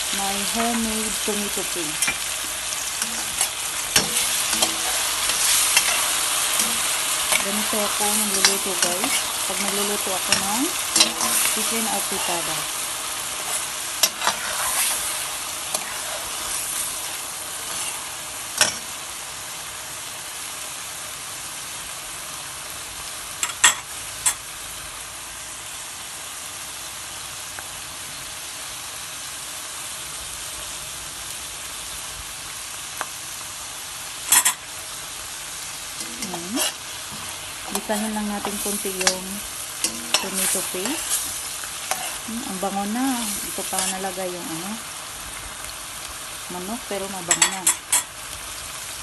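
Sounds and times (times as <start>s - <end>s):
food sizzling in hot oil: 0.0s - 49.0s.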